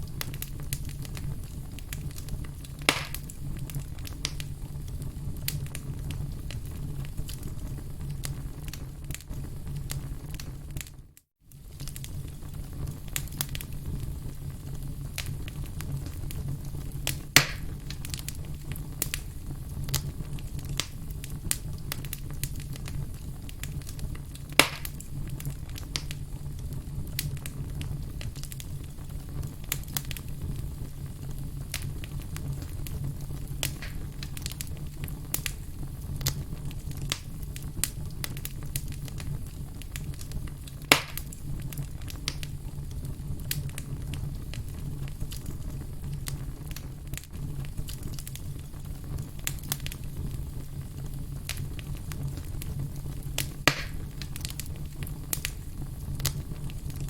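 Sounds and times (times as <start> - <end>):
burning wood popping: 0.0 - 10.9, 11.5 - 57.0
campfire crackling: 0.0 - 57.0.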